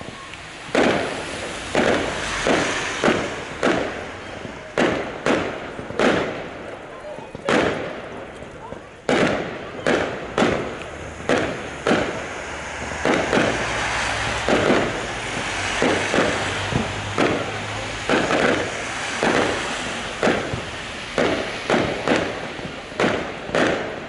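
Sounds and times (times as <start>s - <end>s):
fireworks bangs with echo: 0.0s - 24.0s
fireworks crackling: 0.0s - 24.0s.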